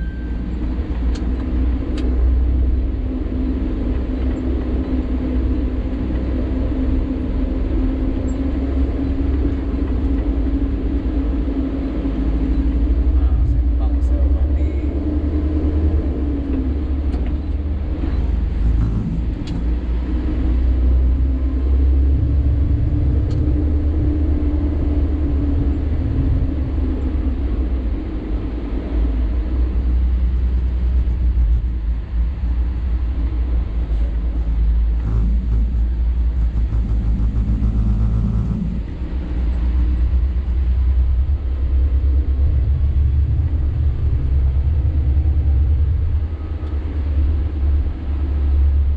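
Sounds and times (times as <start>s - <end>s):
truck engine and road rumble: 0.0s - 48.9s.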